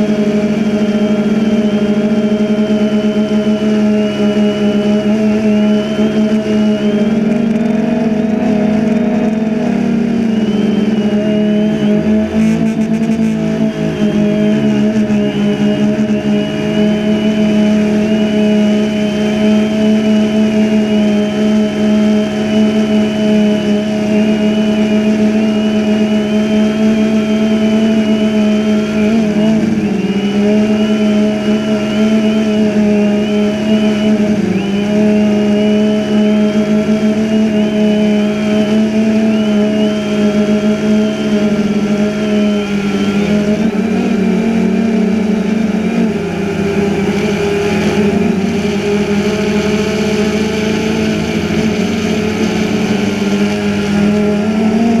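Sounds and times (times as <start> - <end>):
drone propellers whining: 0.0 - 55.0.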